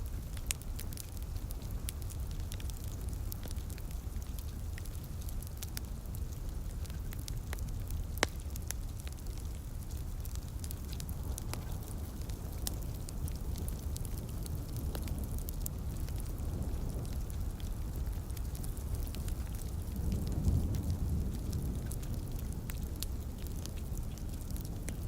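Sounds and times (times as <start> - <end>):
fireplace fire crackling: 0.0 - 25.0
light rain: 0.0 - 25.0.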